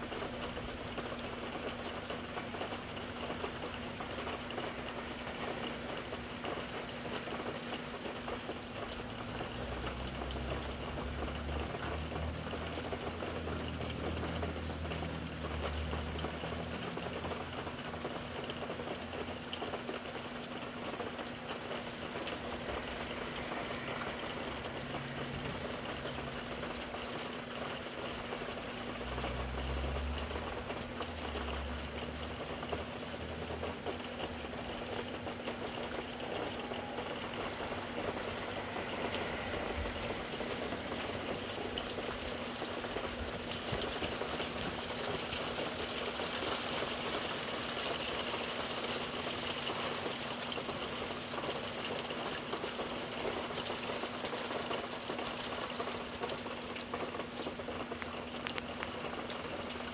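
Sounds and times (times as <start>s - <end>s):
rain pattering: 0.0s - 59.9s
sharp ticks of raindrops: 0.0s - 59.9s.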